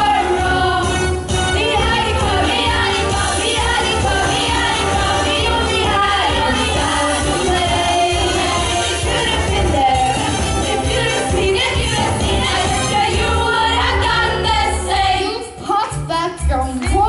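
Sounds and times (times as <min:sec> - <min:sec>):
instrumental accompaniment with bass: 0:00.0 - 0:17.0
singers performing pop song: 0:00.0 - 0:17.0.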